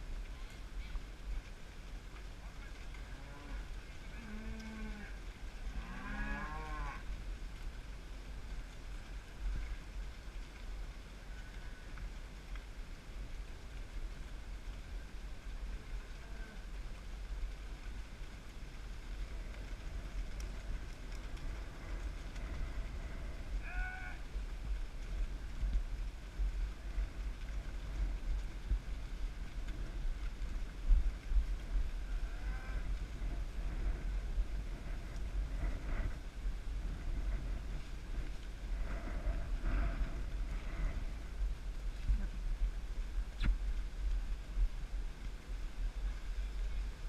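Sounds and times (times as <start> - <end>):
wind rumbling on microphone: 0.0 - 47.0.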